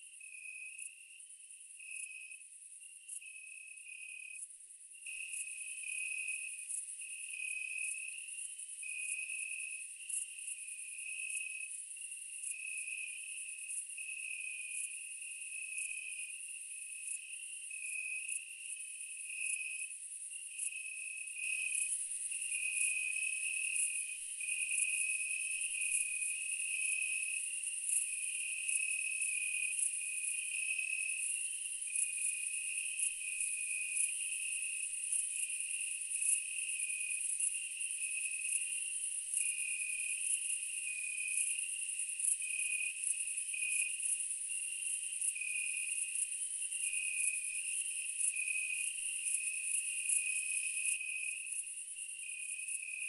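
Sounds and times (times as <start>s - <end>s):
pulsing low insect chirp: 5.0s - 53.0s.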